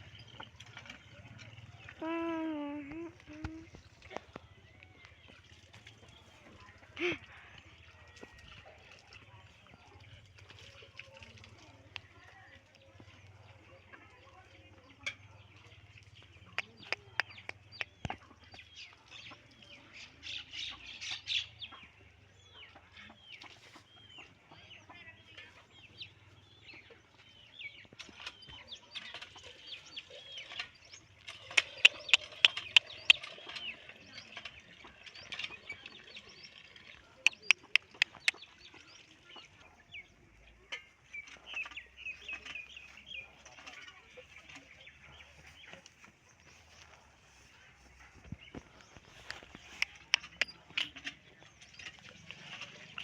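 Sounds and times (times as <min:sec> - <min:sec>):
birds chirping: 0:00.0 - 0:08.1, 0:09.1 - 0:53.0.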